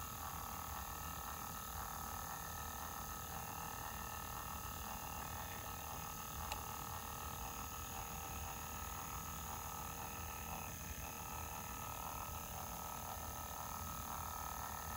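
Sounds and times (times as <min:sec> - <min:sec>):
small electric motor humming: 0:00.0 - 0:14.9.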